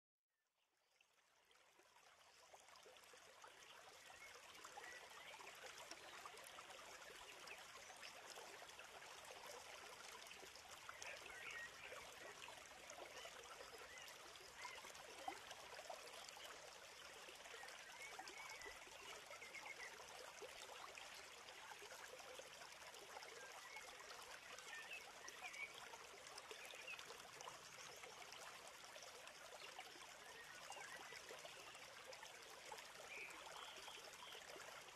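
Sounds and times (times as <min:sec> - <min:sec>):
flowing water rushing: 0:01.7 - 0:34.9.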